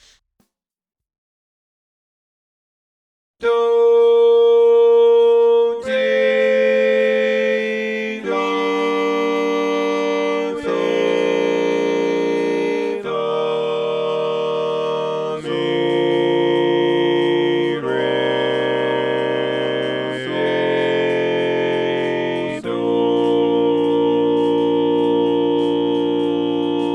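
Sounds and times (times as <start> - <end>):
organ-like harmony chords: 3.5 - 26.9.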